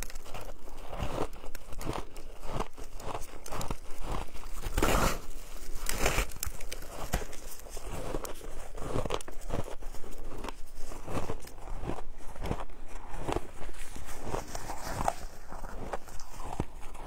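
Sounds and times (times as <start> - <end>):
crunching shaved ice: 0.0 - 17.0.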